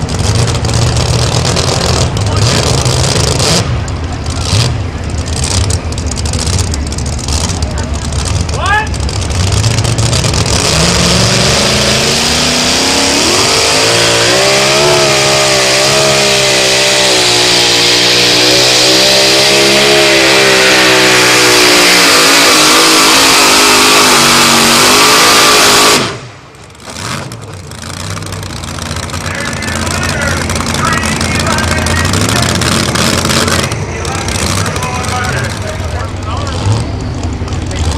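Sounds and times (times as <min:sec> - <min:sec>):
truck engine at full throttle: 0:00.0 - 0:37.9.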